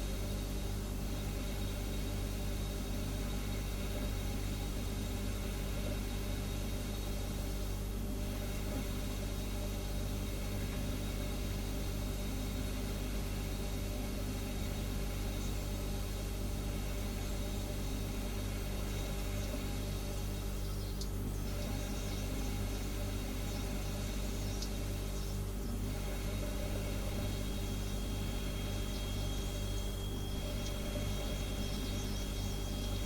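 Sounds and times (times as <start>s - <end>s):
refrigerator humming: 0.0s - 33.0s.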